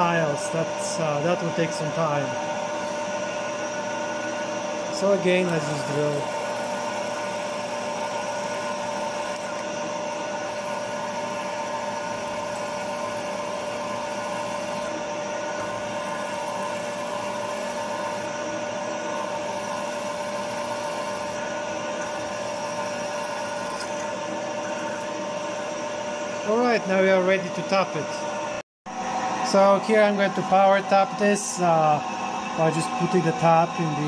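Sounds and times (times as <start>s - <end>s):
milling machine whine: 0.0s - 34.0s.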